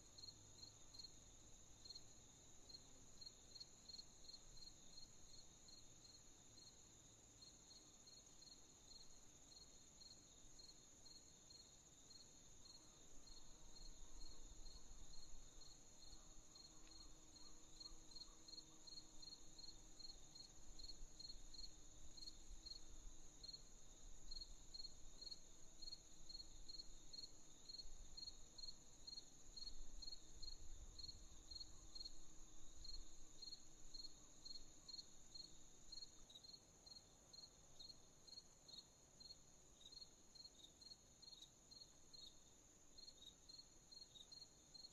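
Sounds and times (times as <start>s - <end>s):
crickets chirping: 0.1s - 44.9s.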